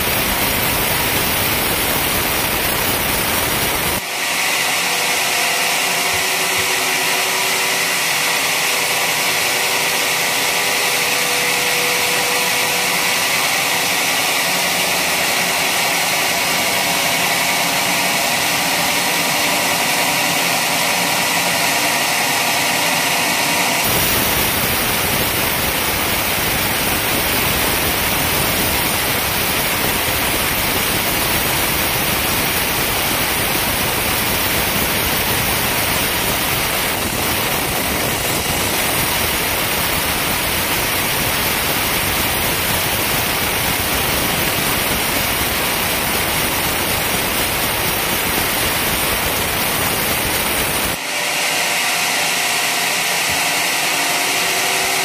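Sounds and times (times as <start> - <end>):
band saw cutting logs: 0.0 - 55.0.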